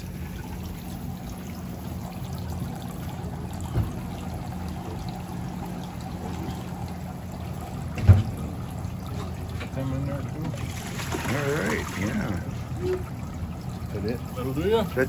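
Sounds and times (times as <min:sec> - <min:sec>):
low steady hum: 0:00.0 - 0:15.0
running water trickling: 0:00.0 - 0:15.0.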